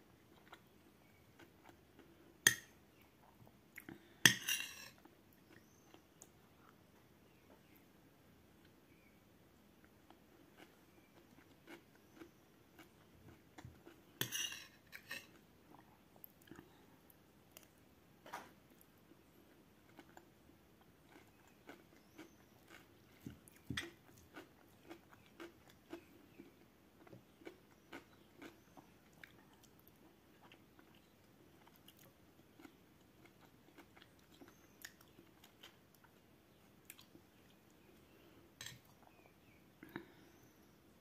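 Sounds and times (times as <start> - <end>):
quiet chewing: 0.1 - 7.9, 9.8 - 40.5.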